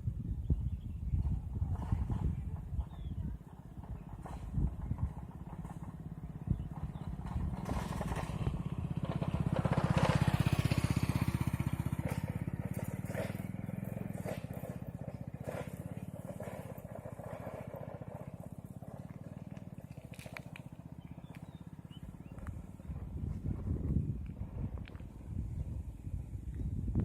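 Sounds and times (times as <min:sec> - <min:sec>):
passing vehicle engine: 0:01.2 - 0:27.0.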